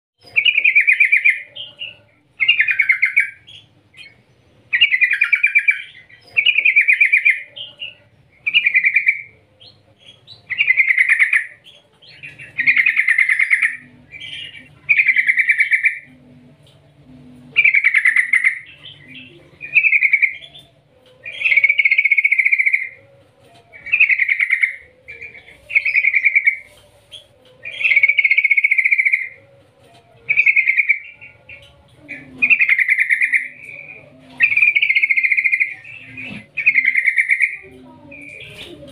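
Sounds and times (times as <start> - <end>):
bird song: 0.2 - 38.9.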